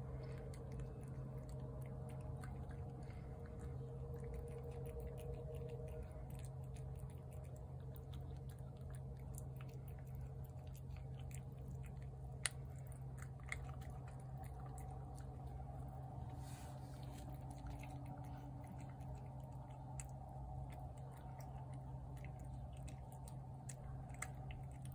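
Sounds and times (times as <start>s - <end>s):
cat chewing wet food: 0.0s - 24.9s
steady low hum: 0.0s - 24.9s.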